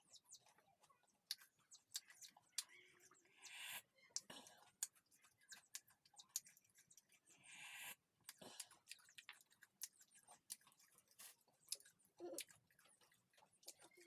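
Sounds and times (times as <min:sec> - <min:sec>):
chewing crispy snacks: 0:00.0 - 0:14.0.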